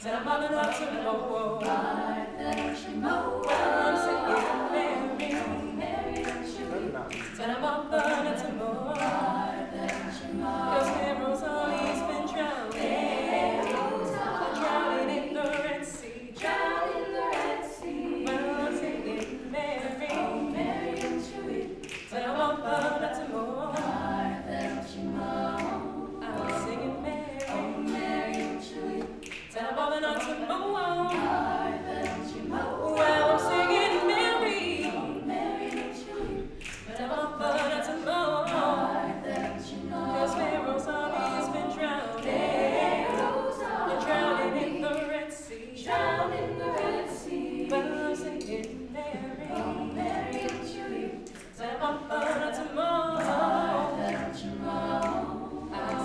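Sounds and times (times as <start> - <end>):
women's a cappella group singing: 0.0 - 56.0.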